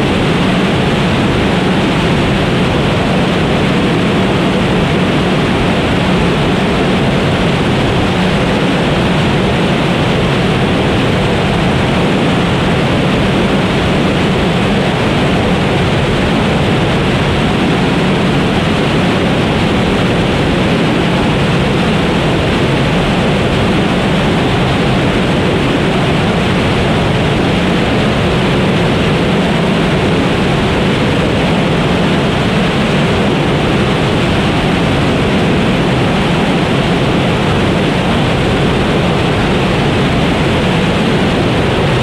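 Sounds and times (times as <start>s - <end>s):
rocket engine roaring: 0.0s - 42.0s.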